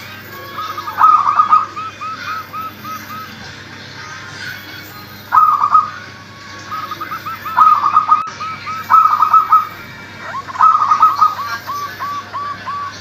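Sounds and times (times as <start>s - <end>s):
dove cooing: 0.0s - 3.5s, 5.3s - 6.0s, 6.7s - 13.0s.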